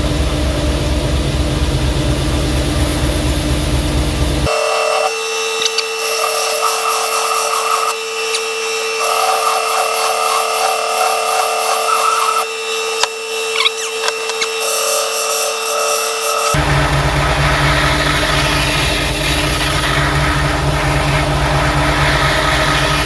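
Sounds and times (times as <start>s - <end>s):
belt sander whining and grinding: 3.9s - 23.0s.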